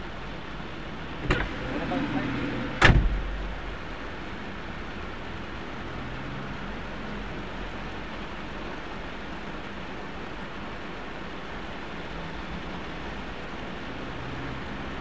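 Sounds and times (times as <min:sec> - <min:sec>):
heavy rain on vehicle roof: 0:00.0 - 0:15.0.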